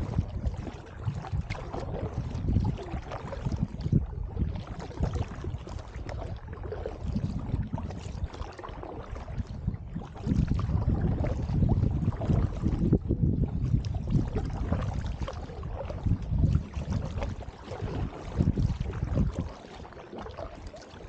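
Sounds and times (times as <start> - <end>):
kayak paddle splashing water: 0.0 - 21.0
water running off paddle blades: 0.0 - 21.0
wind rumble on microphone: 0.0 - 21.0.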